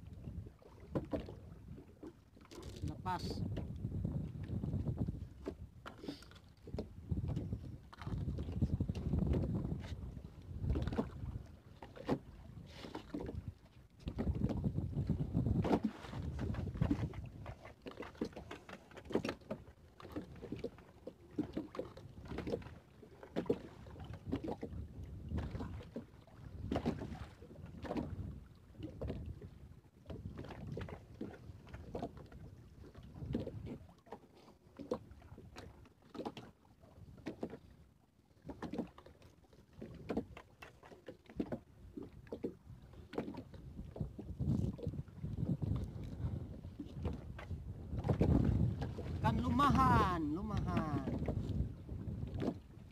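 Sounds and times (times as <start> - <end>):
water splashing against boat hull: 0.0 - 52.9.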